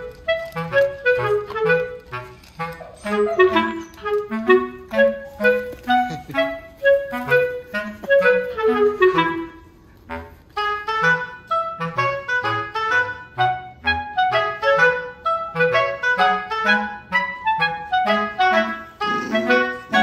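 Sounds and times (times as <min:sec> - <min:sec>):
bouncy clarinet melody over bass: 0:00.0 - 0:20.0.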